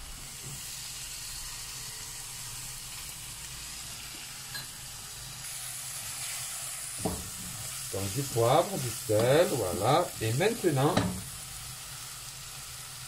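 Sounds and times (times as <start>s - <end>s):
meat and onion sizzling in a pan: 0.0s - 13.0s.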